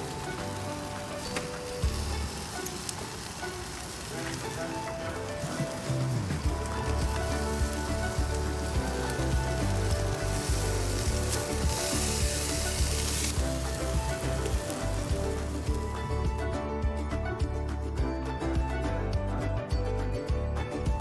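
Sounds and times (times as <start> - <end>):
chicken sizzling on grill: 0.0 - 18.0
background music with steady beat: 0.0 - 21.0.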